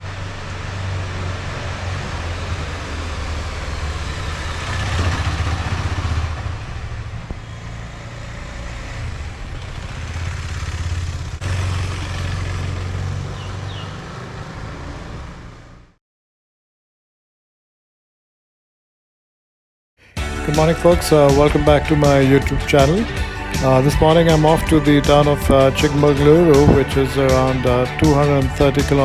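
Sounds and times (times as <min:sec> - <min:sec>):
wind and road noise: 0:00.0 - 0:16.0, 0:20.8 - 0:29.0
motorcycle engine running: 0:00.2 - 0:14.6, 0:20.2 - 0:29.0.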